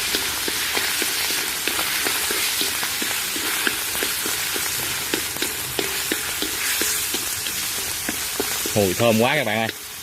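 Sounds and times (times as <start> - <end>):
meat sizzling in a pan: 0.0 - 10.0
metal spatula tapping and scraping: 0.1 - 10.0.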